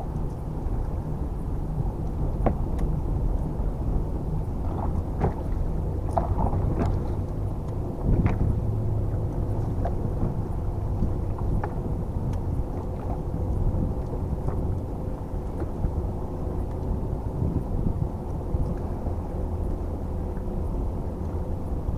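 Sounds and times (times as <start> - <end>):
faint steady hum: 0.0 - 21.9
water slapping against hull: 0.0 - 21.9
wind buffeting microphone: 0.0 - 21.9.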